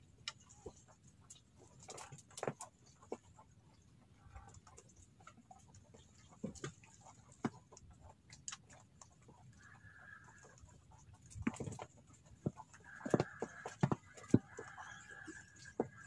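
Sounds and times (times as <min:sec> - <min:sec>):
faint sharp clicks and taps: 0:00.2 - 0:16.0.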